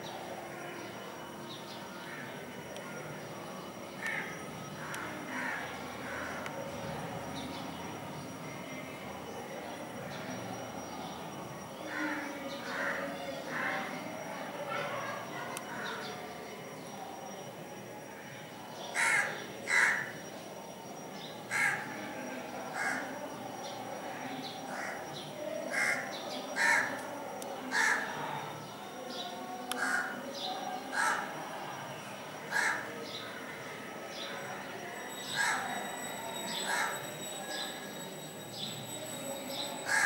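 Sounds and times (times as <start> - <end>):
low background murmur: 0.0 - 40.0
thin high tone: 0.0 - 40.0.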